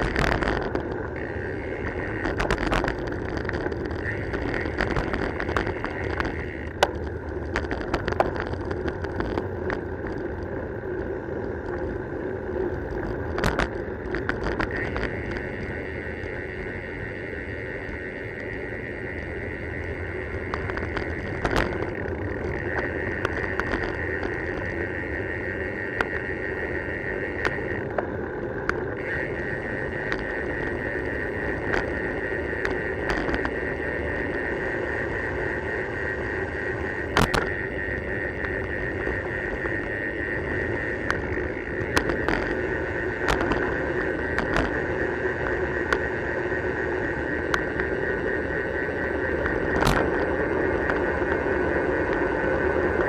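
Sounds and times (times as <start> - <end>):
bicycle tyre and wind rush: 0.0 - 53.0
continuous high buzz: 0.0 - 53.0.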